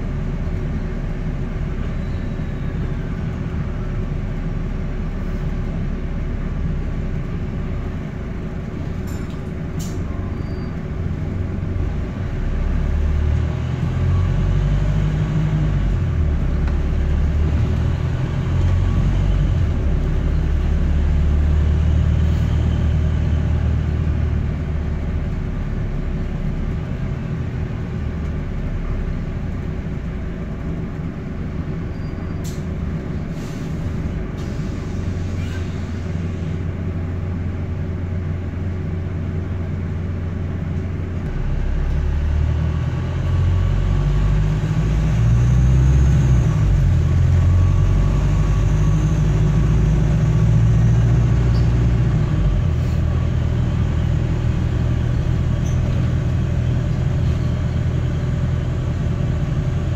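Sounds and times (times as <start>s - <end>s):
bus diesel engine rumbling: 0.0s - 59.9s.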